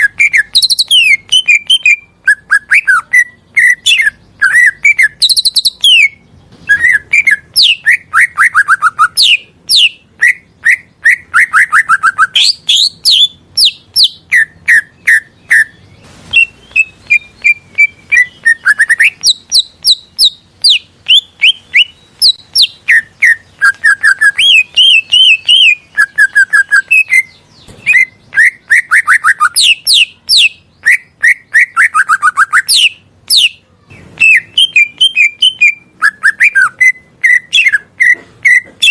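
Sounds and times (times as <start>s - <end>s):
bird singing whistled song: 0.0s - 38.9s.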